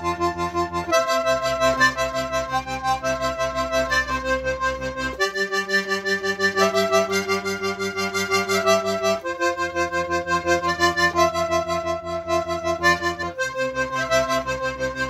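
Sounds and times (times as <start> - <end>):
piano accordion playing: 0.0 - 15.0.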